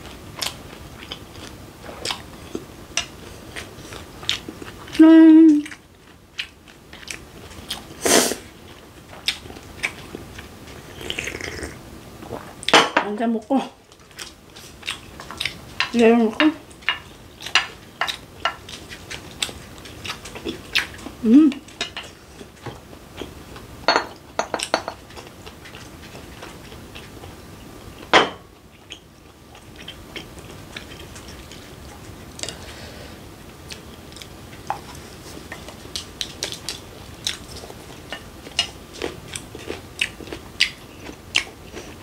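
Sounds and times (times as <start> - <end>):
close-up chewing: 0.3 - 8.0, 8.6 - 12.7, 13.9 - 16.0, 16.6 - 23.7, 24.5 - 32.8, 33.5 - 42.0.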